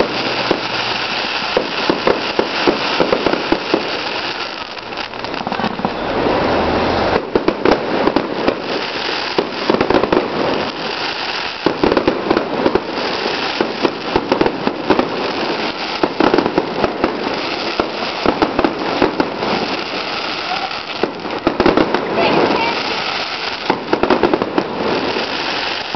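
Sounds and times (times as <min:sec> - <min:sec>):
fireworks crackling: 0:00.0 - 0:25.9
sharp firework bangs: 0:00.0 - 0:25.9.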